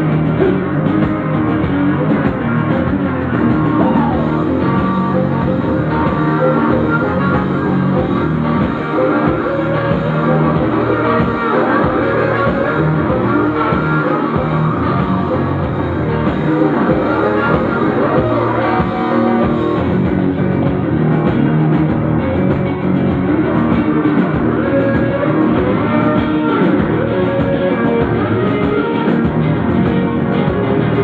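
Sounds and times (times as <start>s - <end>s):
drums: 0.0s - 31.0s.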